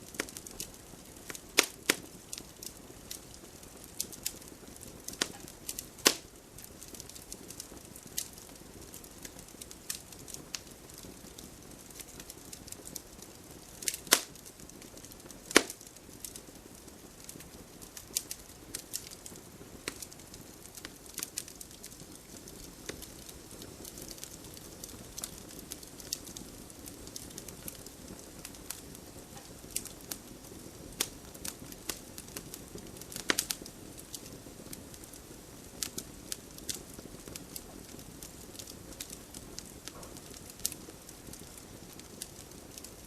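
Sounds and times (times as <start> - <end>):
campfire crackling: 0.0 - 43.0.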